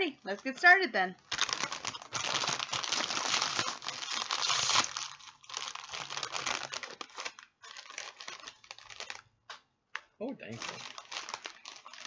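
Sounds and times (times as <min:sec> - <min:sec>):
plastic snack bag crinkling: 0:01.2 - 0:09.4, 0:10.0 - 0:12.0.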